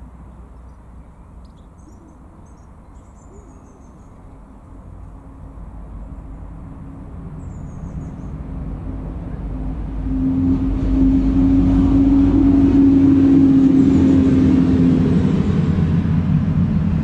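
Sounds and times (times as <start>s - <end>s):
motor engine humming: 1.1s - 17.0s.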